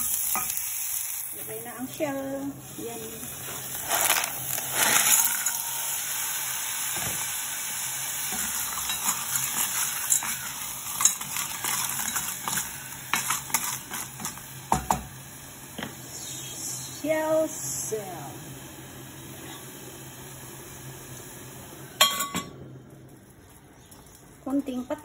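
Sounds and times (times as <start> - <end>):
shellfish sizzling in pot: 0.0 - 25.0.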